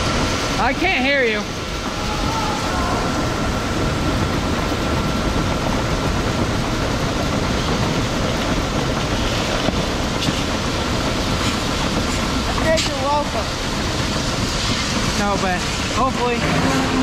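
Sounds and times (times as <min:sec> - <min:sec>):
faint steady whine: 0:00.0 - 0:17.0
grain machinery rumbling: 0:00.0 - 0:17.0.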